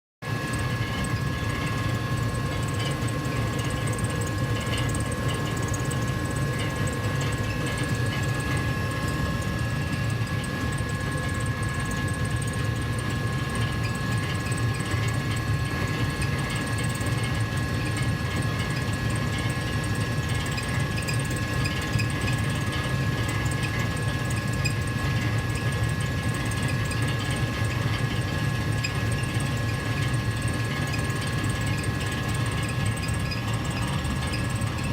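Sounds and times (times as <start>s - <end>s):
gas furnace humming: 0.3s - 34.9s.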